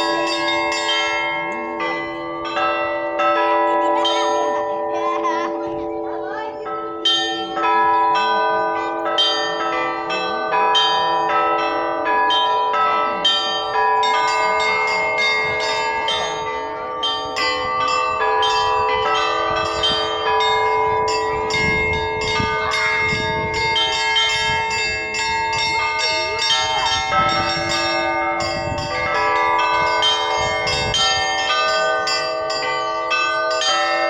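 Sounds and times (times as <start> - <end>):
church bells ringing: 0.0 - 34.0
hum of large bells: 0.0 - 34.0.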